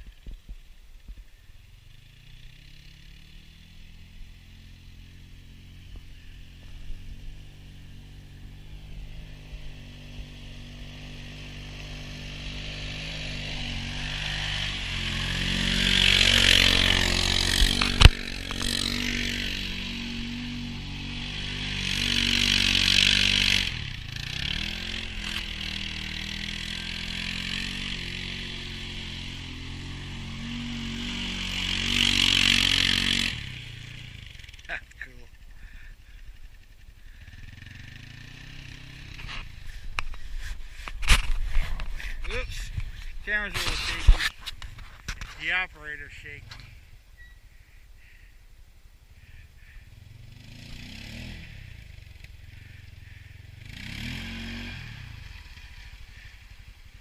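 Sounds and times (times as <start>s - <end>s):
off-road vehicle engine revving: 1.8s - 48.2s, 49.2s - 57.0s.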